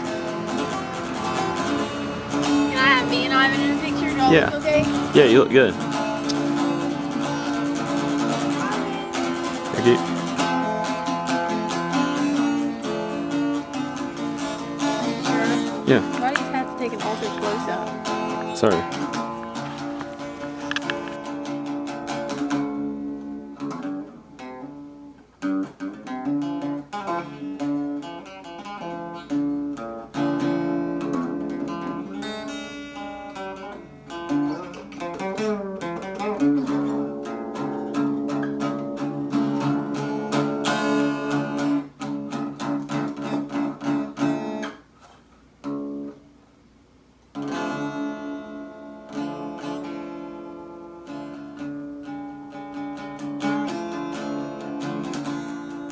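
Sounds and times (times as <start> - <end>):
acoustic guitar playing: 0.0 - 46.5, 47.3 - 55.9.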